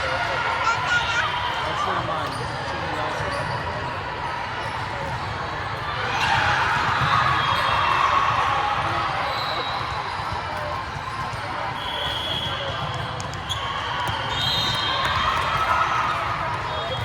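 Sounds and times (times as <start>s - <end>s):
voices in a gym: 0.0s - 17.0s
volleyball being played: 1.4s - 17.0s.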